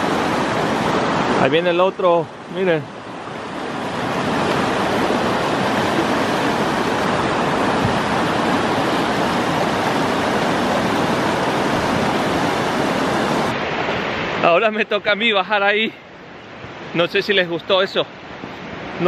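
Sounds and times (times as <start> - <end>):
river rapid roaring: 0.0 - 19.0.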